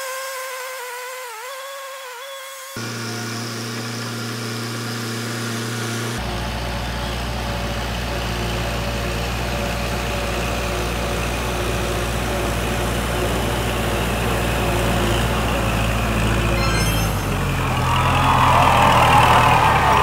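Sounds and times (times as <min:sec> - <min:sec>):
diesel tractor running: 0:02.8 - 0:20.0.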